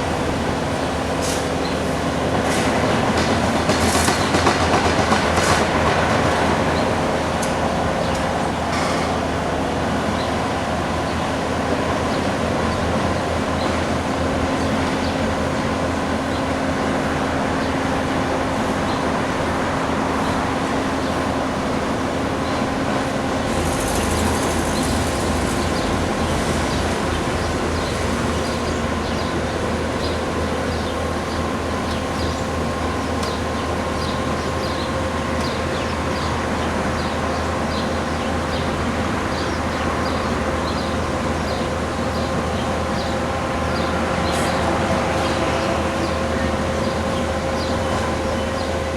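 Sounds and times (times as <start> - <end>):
diesel engines and hydraulics: 0.0 - 48.9.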